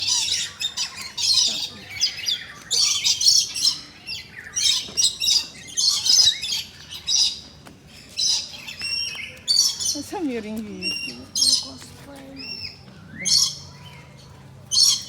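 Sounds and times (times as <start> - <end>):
birds chirping and squawking: 0.0 - 15.0.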